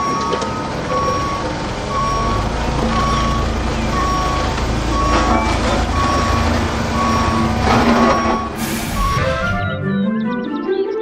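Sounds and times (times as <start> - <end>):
engine rumble: 0.0 - 9.8
reversing alarm beeping: 0.0 - 9.9.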